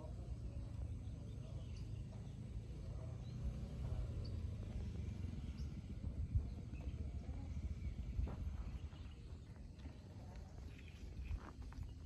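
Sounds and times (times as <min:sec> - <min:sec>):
steady low rumble: 0:00.0 - 0:12.0
faint bird chirps: 0:00.1 - 0:12.0.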